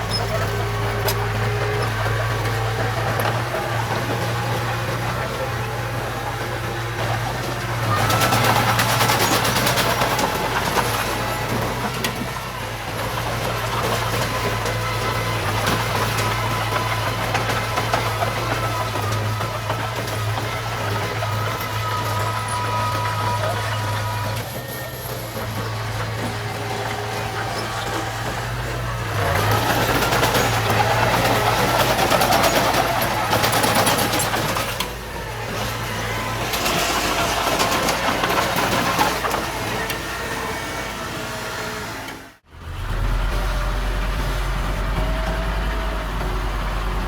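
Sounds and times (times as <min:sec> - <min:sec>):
diesel engine running: 0:00.0 - 0:47.0
machinery working clatter: 0:00.0 - 0:47.0.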